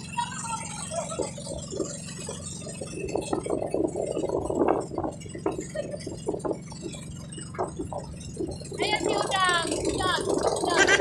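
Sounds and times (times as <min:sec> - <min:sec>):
boat engine drone: 0:00.0 - 0:11.0
water splashing against hull: 0:00.0 - 0:11.0
wind on microphone: 0:01.0 - 0:11.0.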